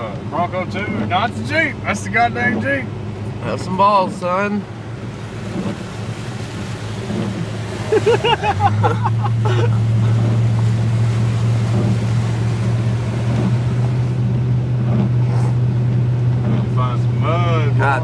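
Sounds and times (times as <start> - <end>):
rain and water noise: 0.0 - 18.0
truck engine droning: 0.0 - 18.0.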